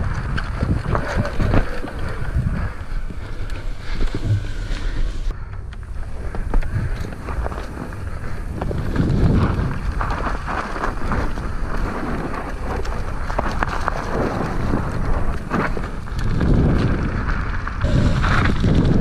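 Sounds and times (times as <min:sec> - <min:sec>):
bike rattling and clicking: 0:00.0 - 0:19.0
tyres rolling over dirt and leaves: 0:00.0 - 0:19.0
wind buffeting microphone: 0:00.0 - 0:19.0.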